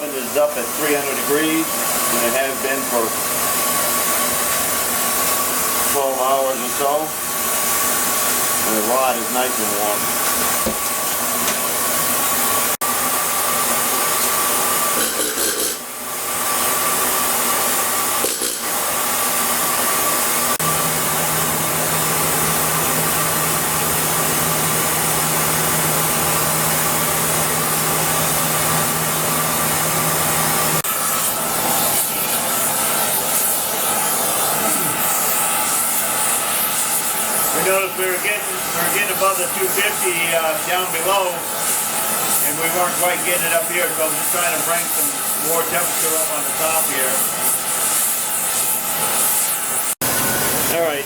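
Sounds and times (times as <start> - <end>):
torch flame hissing: 0.0 - 12.8, 13.4 - 51.0.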